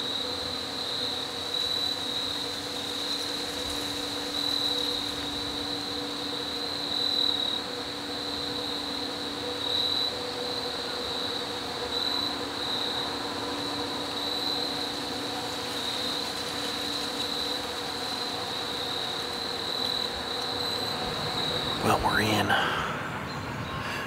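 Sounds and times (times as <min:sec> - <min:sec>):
faint steady hum: 0:00.0 - 0:24.0
insects trilling: 0:00.0 - 0:24.0.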